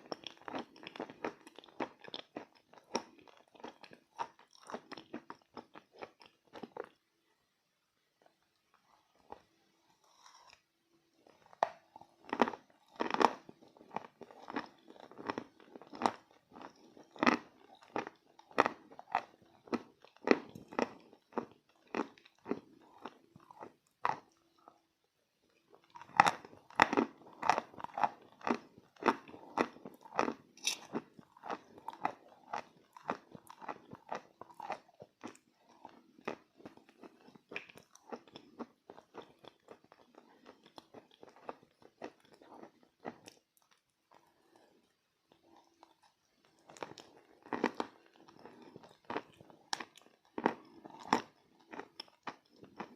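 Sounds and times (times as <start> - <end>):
chewing crisp crunches: 0.0 - 7.0, 8.2 - 24.8, 25.5 - 52.9.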